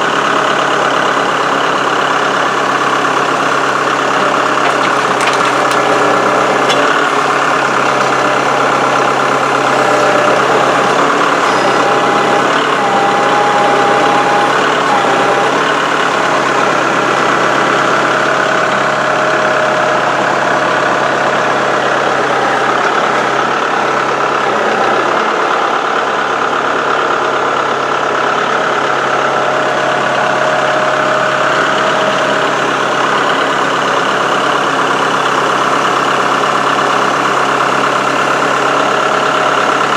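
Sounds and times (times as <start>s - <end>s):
hydraulic whine: 0.0s - 39.9s
tractor diesel engine running: 0.0s - 39.9s.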